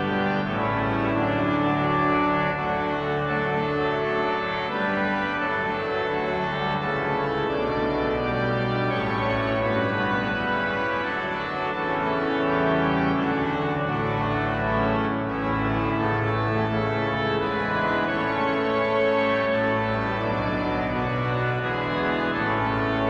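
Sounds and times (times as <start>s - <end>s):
church organ playing chords: 0.0s - 23.0s.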